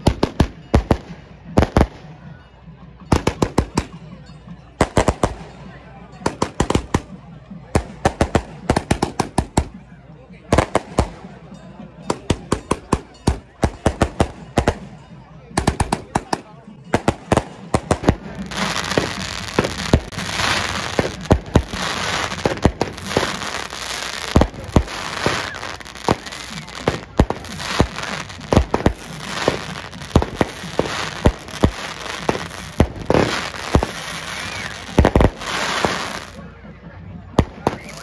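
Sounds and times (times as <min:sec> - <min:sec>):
firecracker crackling: 0:00.0 - 0:02.2, 0:03.1 - 0:04.1, 0:04.8 - 0:09.8, 0:10.5 - 0:36.5, 0:37.4 - 0:38.0
firecrackers banging: 0:00.0 - 0:02.2, 0:02.9 - 0:09.8, 0:10.5 - 0:36.5, 0:37.3 - 0:38.0.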